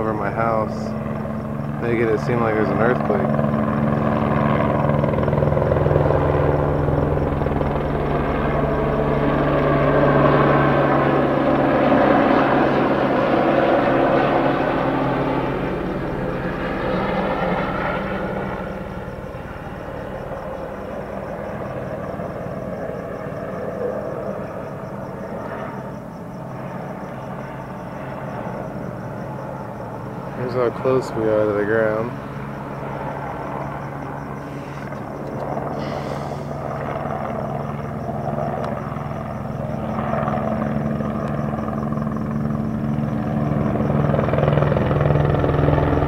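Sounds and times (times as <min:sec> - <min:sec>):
helicopter hovering overhead: 0:00.0 - 0:46.0.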